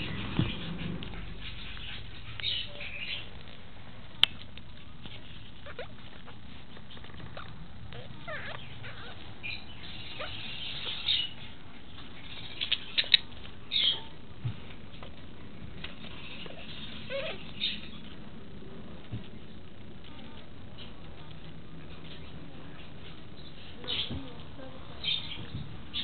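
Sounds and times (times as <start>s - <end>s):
bird chirping softly: 0.0s - 3.6s, 4.2s - 14.2s, 15.9s - 18.3s, 20.2s - 26.0s.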